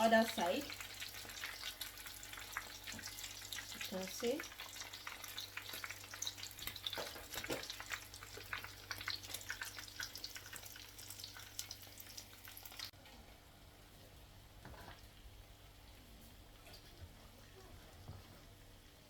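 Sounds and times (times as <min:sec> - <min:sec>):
croquettes deep-frying in hot oil: 0:00.0 - 0:17.7.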